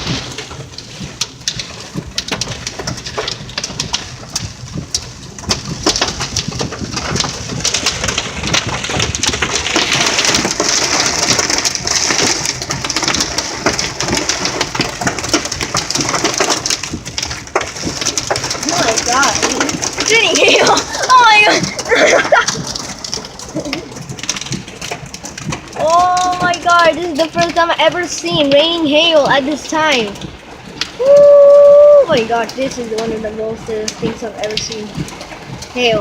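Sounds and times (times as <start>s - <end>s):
hail and rain on car roof: 0.0s - 36.0s.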